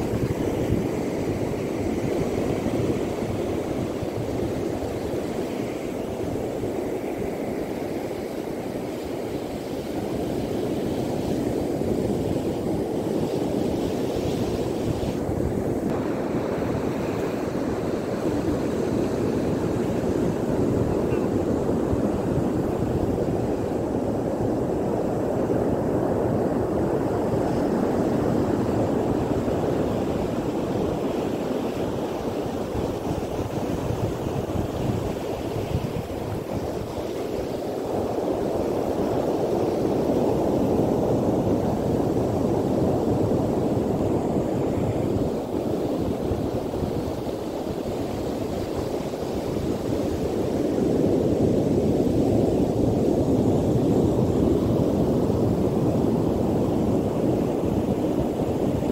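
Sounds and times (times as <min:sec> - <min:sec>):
surf rushing on beach: 0:00.0 - 0:58.9
wind on microphone: 0:00.0 - 0:58.9.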